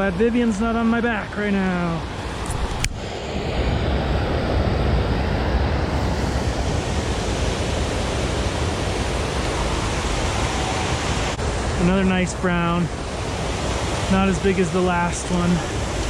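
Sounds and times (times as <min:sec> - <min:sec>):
river water rushing: 0:01.2 - 0:16.0.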